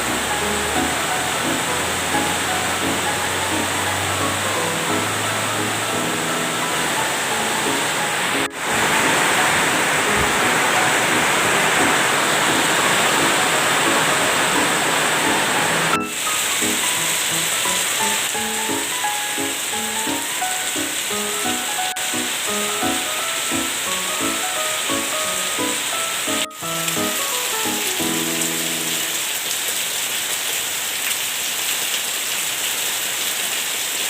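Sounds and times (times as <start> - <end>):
background music melody: 0.0 - 29.4
heavy rain hissing: 0.0 - 34.0.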